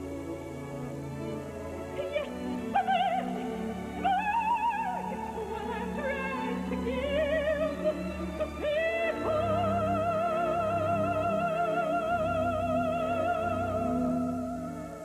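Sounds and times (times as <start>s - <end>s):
operatic soprano singing: 1.2s - 15.0s.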